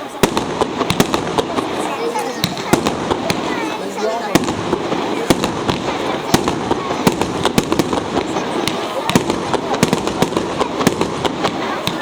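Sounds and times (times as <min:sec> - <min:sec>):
continuous background noise: 0:00.0 - 0:12.0
fireworks bangs and crackles: 0:00.0 - 0:12.0.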